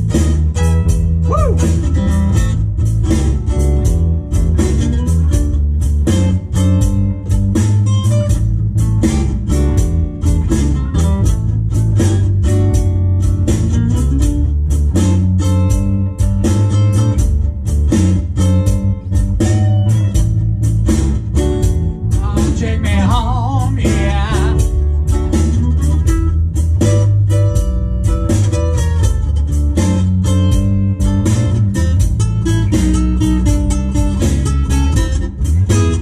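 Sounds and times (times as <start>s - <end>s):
cigar box guitar blues: 0.0s - 36.0s
electric bass guitar: 0.0s - 36.0s
steady beat: 0.0s - 36.0s.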